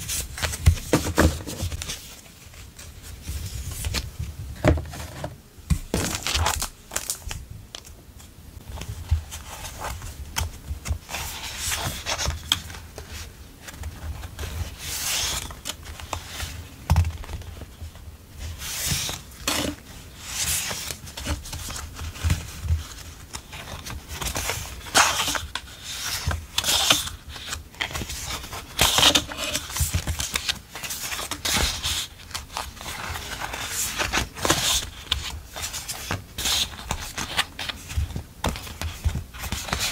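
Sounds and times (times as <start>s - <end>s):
paper rustling: 0.0s - 7.9s, 8.6s - 39.9s.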